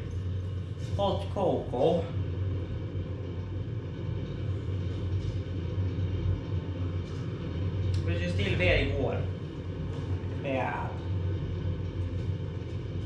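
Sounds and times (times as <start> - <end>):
even hum: 0.0 - 13.0
low rumble: 0.0 - 13.0.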